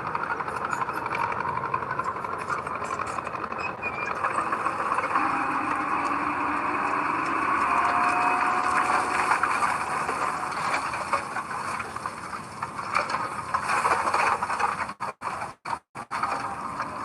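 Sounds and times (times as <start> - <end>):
heavy machinery engine running: 0.0 - 17.0
mechanical clatter: 0.0 - 17.0.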